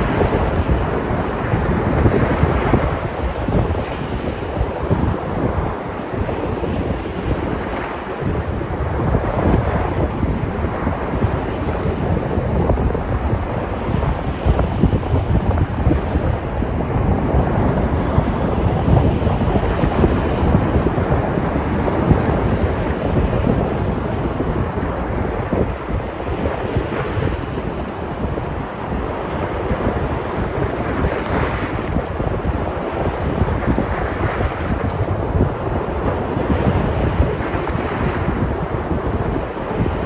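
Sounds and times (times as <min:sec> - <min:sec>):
surf washing onto shore: 0:00.0 - 0:40.0
wind buffeting microphone: 0:00.0 - 0:40.0.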